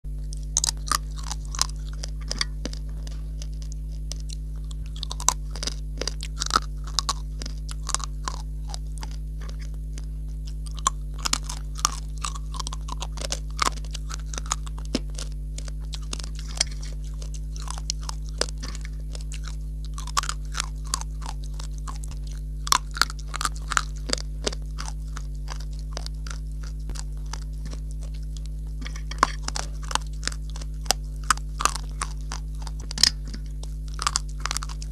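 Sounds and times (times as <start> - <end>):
steady low hum: 0.0 - 34.9
clay chunks crunching when chewed: 0.1 - 34.9.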